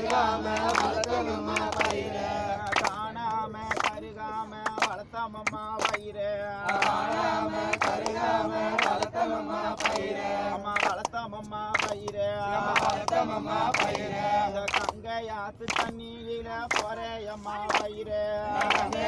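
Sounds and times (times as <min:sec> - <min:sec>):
group singing a chant-like song: 0:00.0 - 0:19.0.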